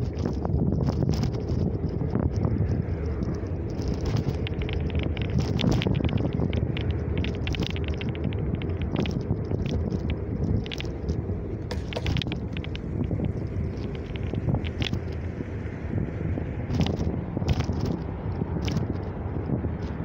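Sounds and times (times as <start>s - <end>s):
light rattling clicks: 0.0s - 15.8s, 16.6s - 20.0s
tyres rolling on asphalt: 0.0s - 20.0s
wind buffeting microphone: 0.0s - 20.0s.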